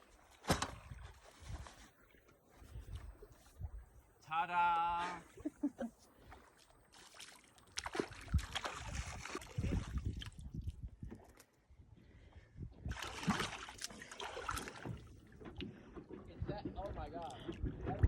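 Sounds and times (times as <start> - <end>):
water sloshing and splashing: 0.0 - 4.0, 5.1 - 11.6, 12.8 - 18.0.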